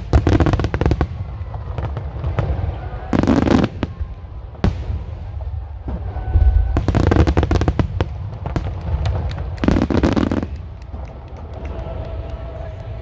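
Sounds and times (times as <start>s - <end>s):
crackling fireworks bursts: 0.0s - 13.0s
fireworks bursting: 0.0s - 13.0s.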